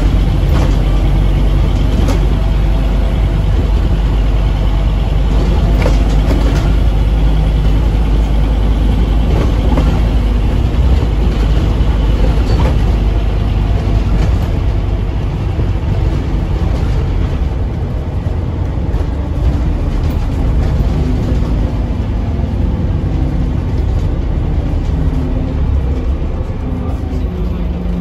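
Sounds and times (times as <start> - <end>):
bus engine drone: 0.0 - 28.0
road noise: 0.0 - 28.0.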